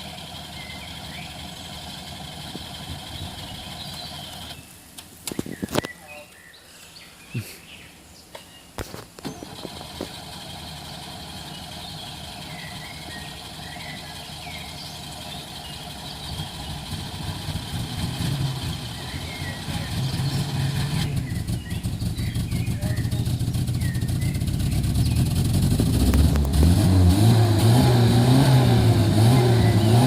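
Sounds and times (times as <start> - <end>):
van engine running: 0.0 - 4.7, 9.2 - 30.0.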